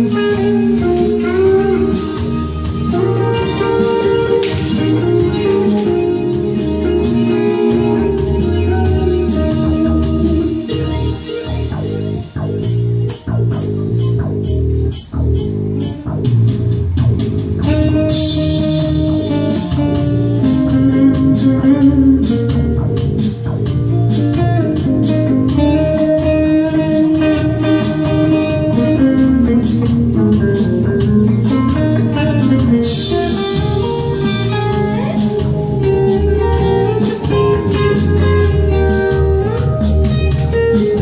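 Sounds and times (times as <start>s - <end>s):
drum beat: 0.0s - 11.4s, 12.2s - 41.0s
bass line: 0.0s - 41.0s
electric guitar melody: 0.0s - 41.0s.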